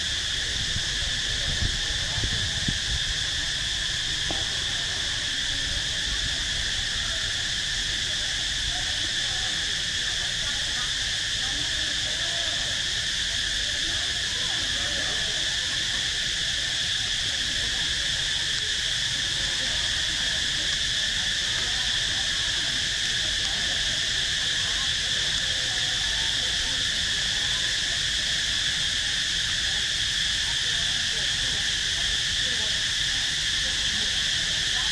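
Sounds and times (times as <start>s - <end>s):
insects buzzing: 0.0s - 34.9s.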